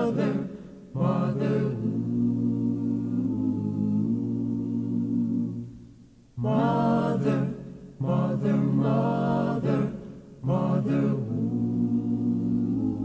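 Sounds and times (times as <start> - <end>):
choir-like voices singing: 0.0 - 13.0.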